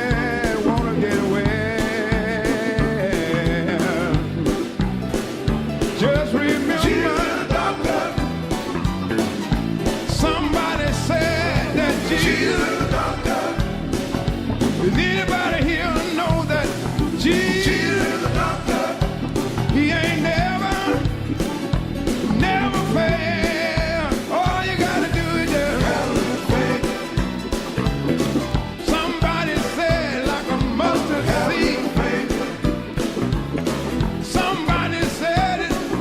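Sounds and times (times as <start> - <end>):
rock song with vocals: 0.0 - 36.0.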